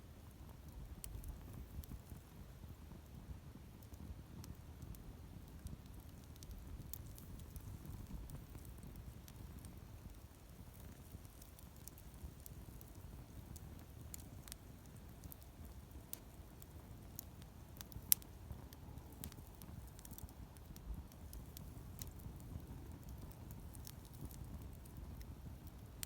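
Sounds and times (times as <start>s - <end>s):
low rumble of flame: 0.0s - 26.0s
campfire crackling and popping: 0.2s - 26.0s.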